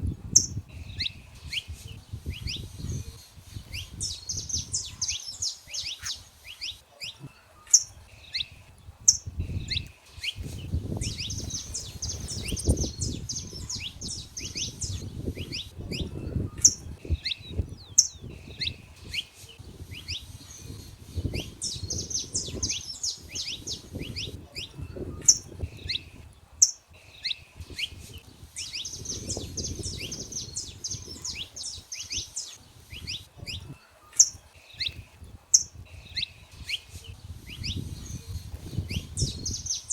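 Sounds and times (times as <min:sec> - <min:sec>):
finches singing high notes: 0:00.4 - 0:39.9.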